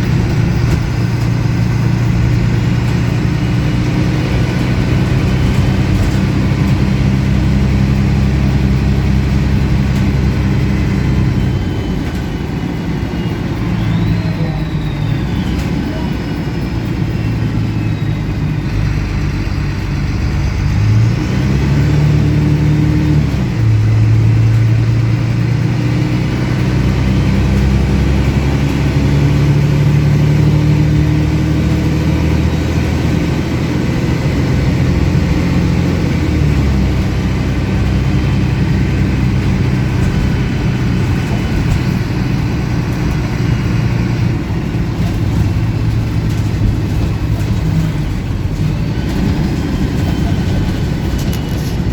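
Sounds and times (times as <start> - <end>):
bus diesel engine through gears: 0.0 - 51.9.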